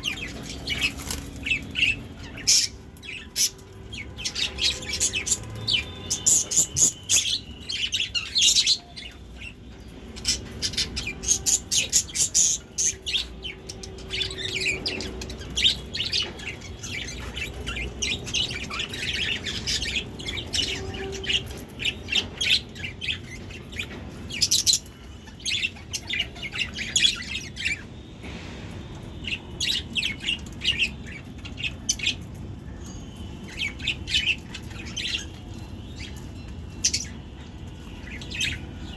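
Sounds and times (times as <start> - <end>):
budgerigars chirping and chattering: 0.0 - 27.9, 29.2 - 38.9.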